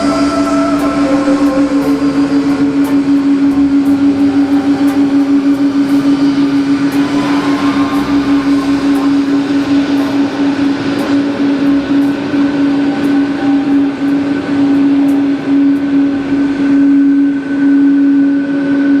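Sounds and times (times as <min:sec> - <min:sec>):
vehicle mechanical drone: 0:00.0 - 0:19.0.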